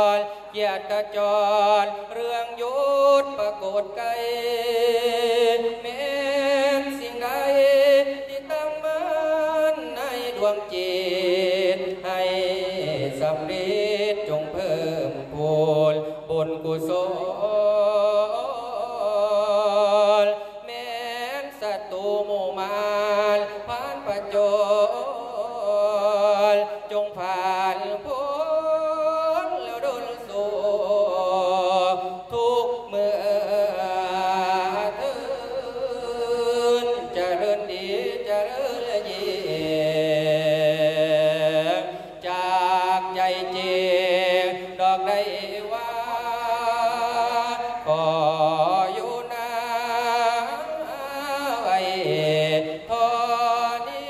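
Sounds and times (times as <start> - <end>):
man chanting through a microphone: 0.0 - 54.0.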